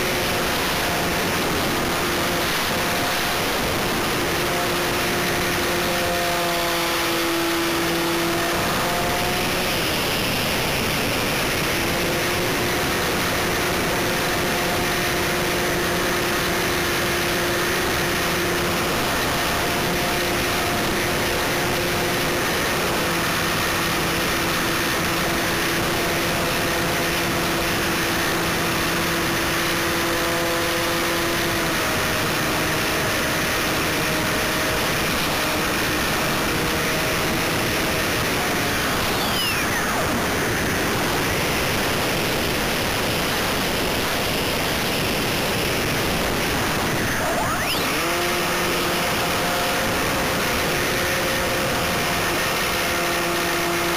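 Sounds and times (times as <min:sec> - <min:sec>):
model plane motor whine: 0:00.0 - 0:53.9
wind rush on microphone: 0:00.0 - 0:53.9.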